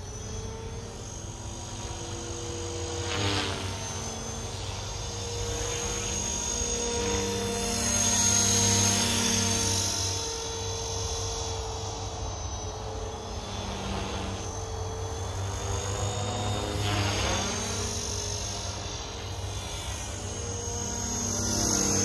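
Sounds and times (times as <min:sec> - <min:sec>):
model helicopter rotor whine: 0:00.0 - 0:22.0.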